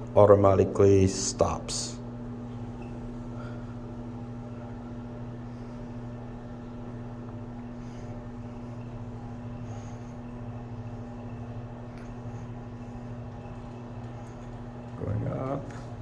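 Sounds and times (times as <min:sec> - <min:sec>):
motorized shade motor humming: 0:00.0 - 0:16.0.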